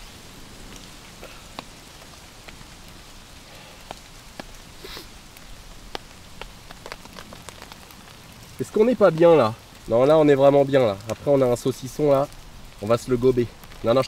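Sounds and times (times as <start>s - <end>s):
rain on tent fabric: 0.0s - 14.0s.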